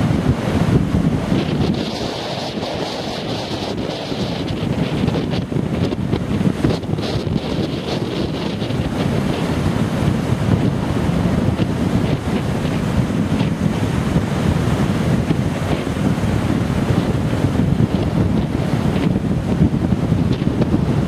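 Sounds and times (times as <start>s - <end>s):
storm surf breaking: 0.0s - 21.0s
wind buffeting microphone: 0.0s - 21.0s.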